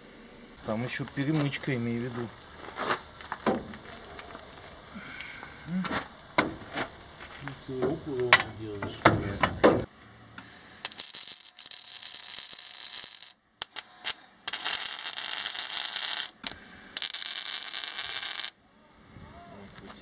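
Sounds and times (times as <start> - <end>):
arc welding hissing: 0.6 - 18.6.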